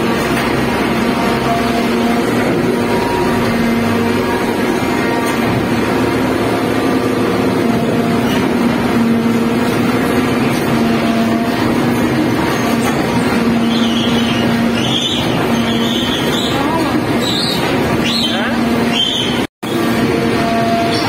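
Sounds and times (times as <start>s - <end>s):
loader machine drone: 0.0s - 21.0s.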